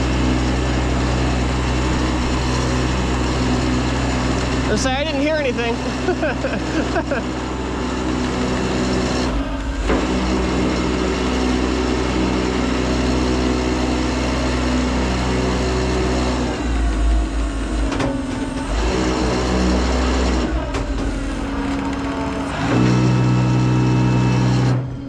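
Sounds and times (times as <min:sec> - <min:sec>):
heavy low rumble: 0:00.0 - 0:25.0
truck engine running: 0:00.0 - 0:25.0.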